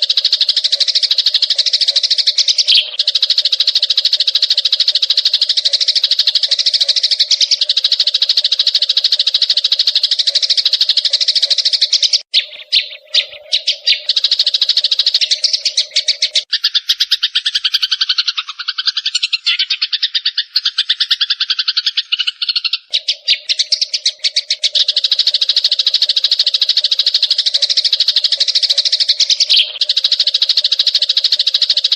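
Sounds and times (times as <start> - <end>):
sparrows chirping: 0.0 - 31.9.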